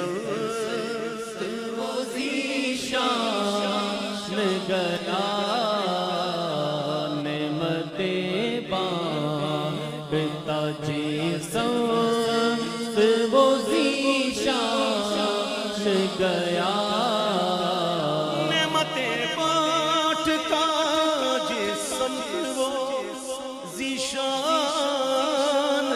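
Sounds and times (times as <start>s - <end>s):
man singing unaccompanied: 0.0s - 25.9s.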